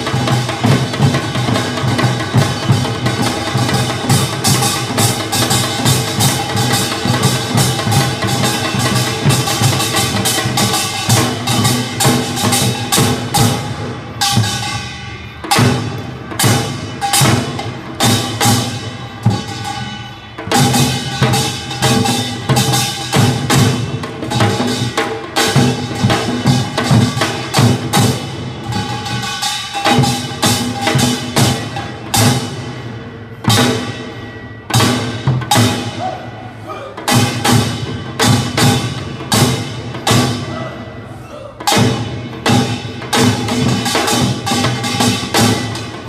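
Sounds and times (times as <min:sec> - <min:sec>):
drums beaten fast: 0:00.0 - 0:46.0.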